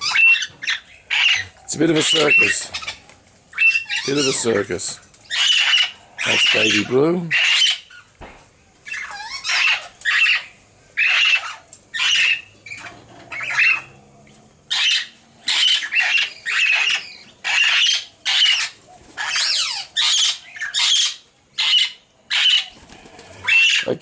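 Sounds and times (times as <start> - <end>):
parrots squawking: 0.0 - 8.1, 8.8 - 14.1, 14.7 - 24.0.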